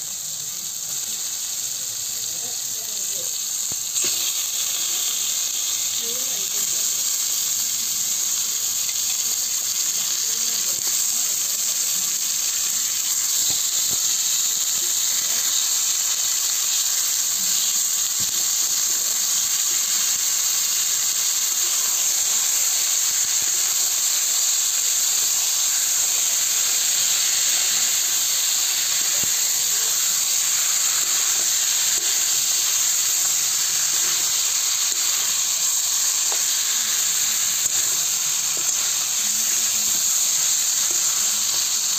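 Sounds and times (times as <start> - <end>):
food sizzling in a wok: 0.0 - 41.9.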